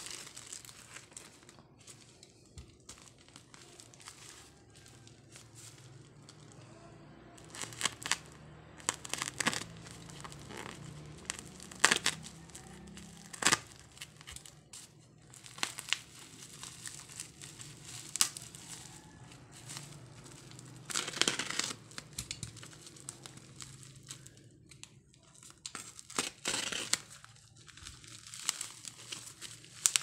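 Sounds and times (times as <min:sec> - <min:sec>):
plastic tearing: 0:00.0 - 0:30.0
plastic wrapping crinkling: 0:00.0 - 0:30.0.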